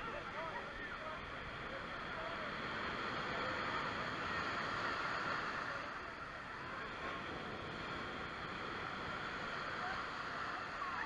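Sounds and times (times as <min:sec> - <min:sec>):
sea water rushing: 0:00.0 - 0:11.0.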